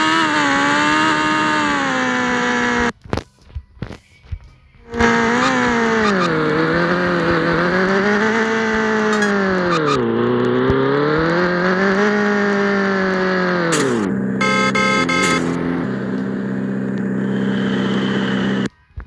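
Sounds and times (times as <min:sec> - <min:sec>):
loud motorcycle engine revving: 0:00.0 - 0:02.9, 0:04.9 - 0:18.7.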